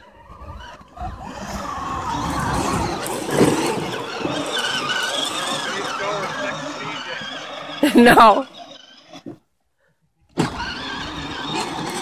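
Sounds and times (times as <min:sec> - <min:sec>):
electric motor whining: 0:00.0 - 0:09.3, 0:10.3 - 0:12.0.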